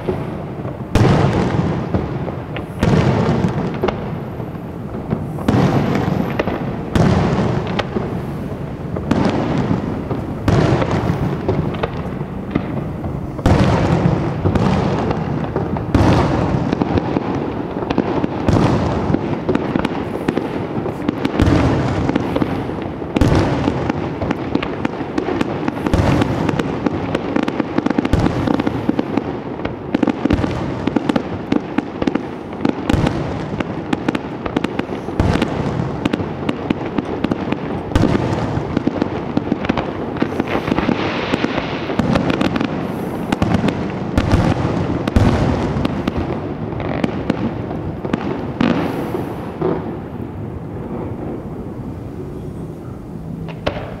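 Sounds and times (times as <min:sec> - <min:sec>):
firework shells bursting: 0:00.0 - 0:50.2
fireworks crackling: 0:00.0 - 0:54.0.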